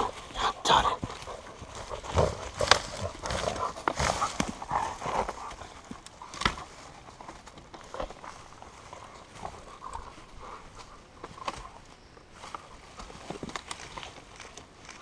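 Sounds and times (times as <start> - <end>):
dry twigs cracking: 0.0 - 15.0
dog dragging branch through brush: 1.0 - 15.0.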